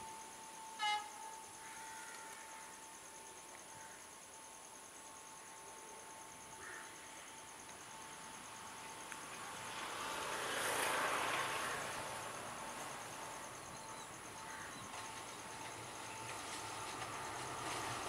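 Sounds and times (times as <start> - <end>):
faint train hum: 0.0 - 18.0
insects chirping: 0.0 - 18.0.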